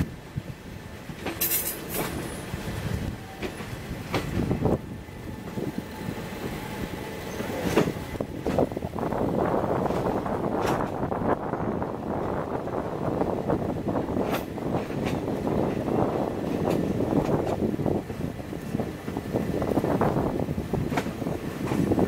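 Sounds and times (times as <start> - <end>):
wheels rumbling on track: 0.0 - 22.0.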